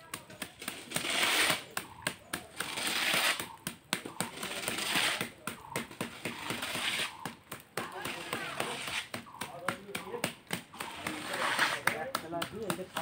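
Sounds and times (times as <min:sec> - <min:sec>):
trowel scraping wet concrete: 0:00.0 - 0:13.0.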